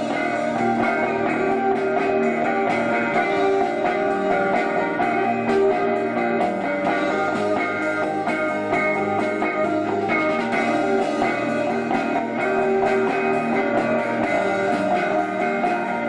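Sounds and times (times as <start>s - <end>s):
distorted electric guitar chords: 0.0s - 16.0s
rock band playing live: 0.0s - 16.0s.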